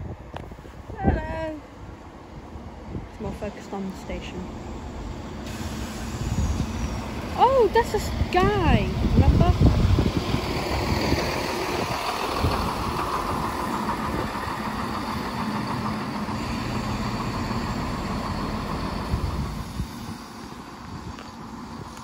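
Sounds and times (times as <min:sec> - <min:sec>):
heavy vehicle engine humming: 0:00.0 - 0:22.0.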